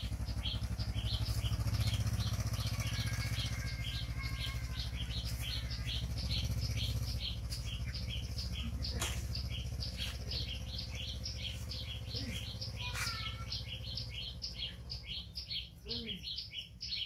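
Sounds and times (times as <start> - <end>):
bird chirping: 0.0 - 17.0
small motorbike engine puttering: 0.0 - 17.0.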